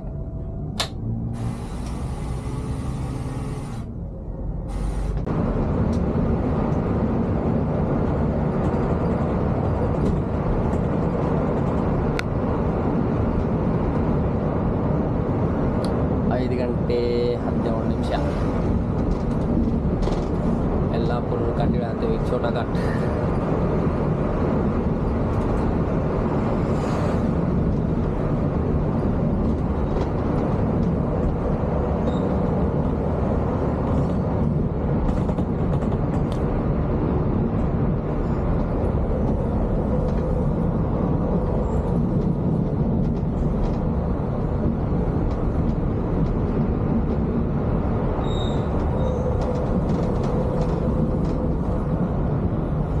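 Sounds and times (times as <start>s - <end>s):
diesel engine rumble: 0.0s - 53.0s.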